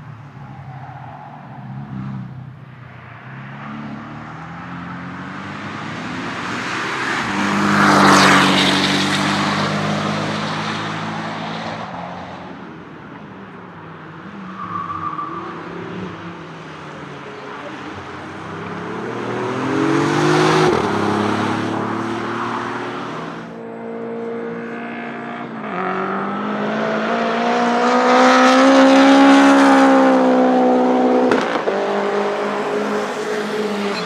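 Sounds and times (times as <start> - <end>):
race car passing at speed: 0.4 - 12.6, 14.2 - 34.0.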